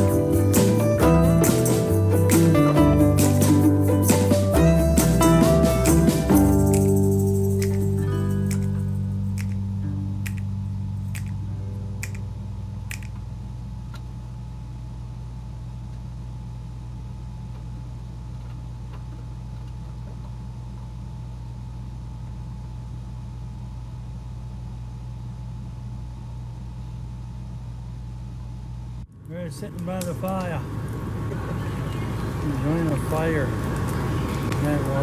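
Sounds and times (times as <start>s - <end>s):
low mechanical hum: 6.3s - 35.0s.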